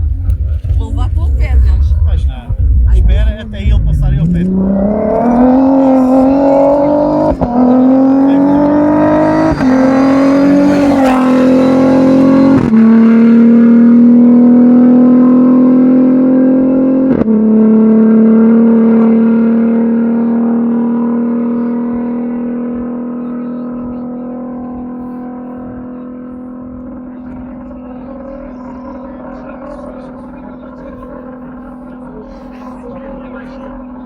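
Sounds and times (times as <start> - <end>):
car engine accelerating through gears: 0.0 - 34.0.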